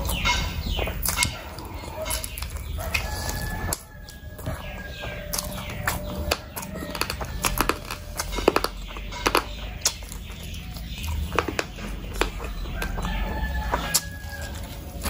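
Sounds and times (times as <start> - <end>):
close chewing with mouth clicks: 0.0 - 15.0.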